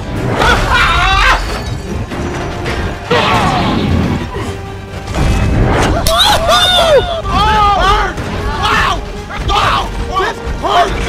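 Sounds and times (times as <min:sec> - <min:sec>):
soundtrack music: 0:00.0 - 0:11.0.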